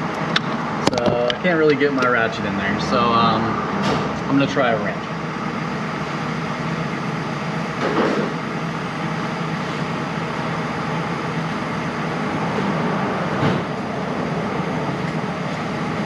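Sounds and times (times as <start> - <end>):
steady droning hum: 0.0 - 16.0.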